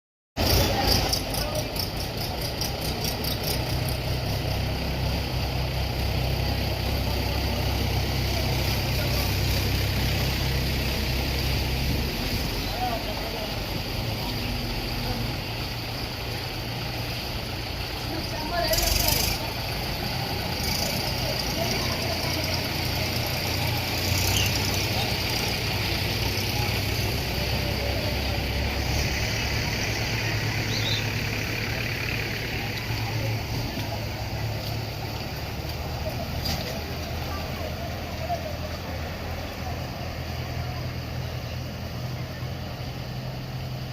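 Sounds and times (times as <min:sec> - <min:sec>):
engine humming steadily: 0:00.4 - 0:43.9.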